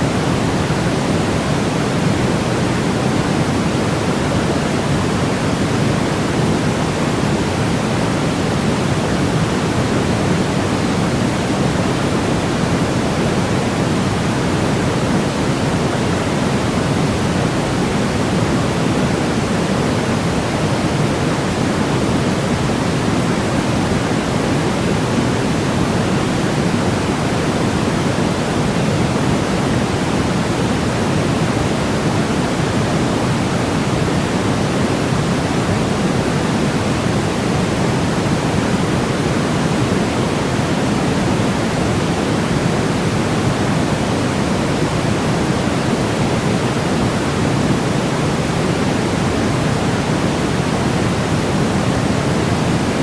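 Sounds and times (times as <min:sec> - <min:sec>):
deep steady white noise hiss: 0:00.0 - 0:53.0.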